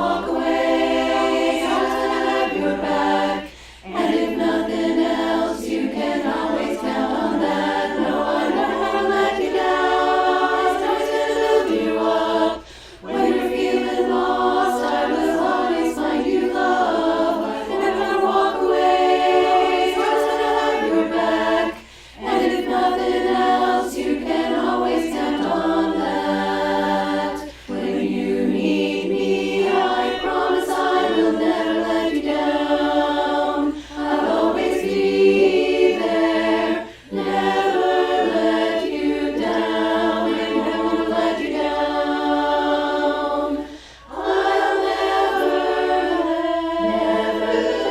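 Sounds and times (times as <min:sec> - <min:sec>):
choir singing a cappella: 0:00.0 - 0:47.9.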